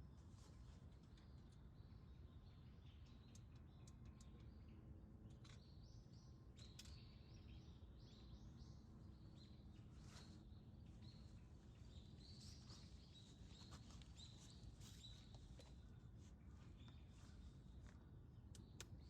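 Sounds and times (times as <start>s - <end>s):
small birds chirping: 1.1s - 19.0s.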